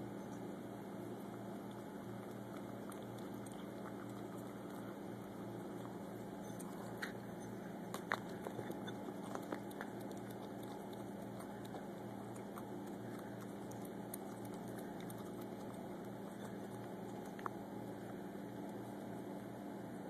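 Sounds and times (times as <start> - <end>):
cat chewing and licking: 0.0 - 20.0
low hum: 0.0 - 20.0.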